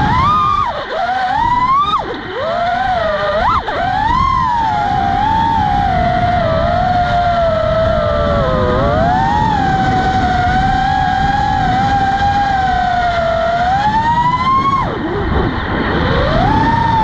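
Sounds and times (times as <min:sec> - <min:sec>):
quadcopter motors whining: 0:00.0 - 0:17.0
wind rumbling on microphone: 0:00.0 - 0:17.0.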